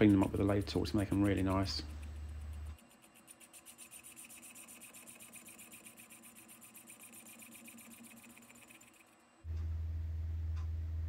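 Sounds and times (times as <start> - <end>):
metal lathe rapid ticking: 0.0 - 9.1.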